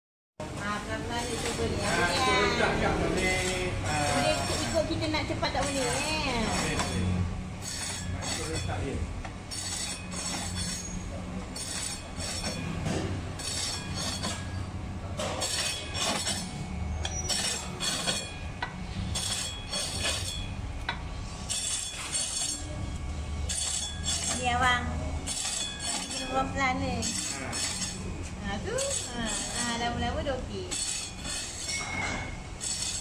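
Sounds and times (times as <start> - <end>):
blade scraping sugar block: 1.1 - 20.6, 21.5 - 22.8, 23.4 - 33.0
meat slicer motor hum: 1.1 - 33.0.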